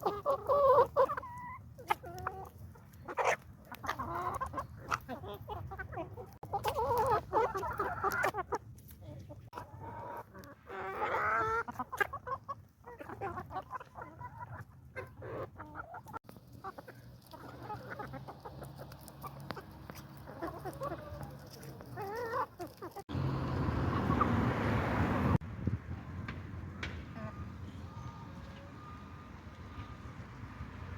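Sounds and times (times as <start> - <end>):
chickens clucking: 0.0 - 25.4.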